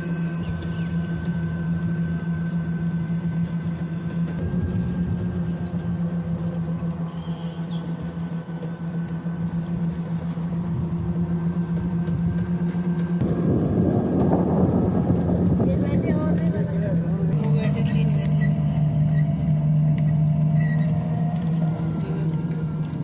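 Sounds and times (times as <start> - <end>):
rough engine rumble: 0.0 - 23.0
vehicle motor humming: 0.0 - 23.0.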